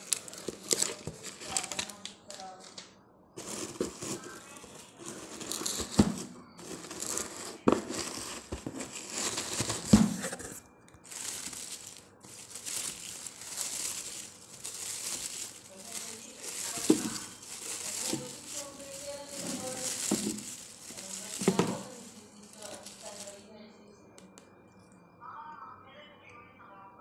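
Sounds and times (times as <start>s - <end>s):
packing paper crinkling and rustling: 0.0s - 23.5s.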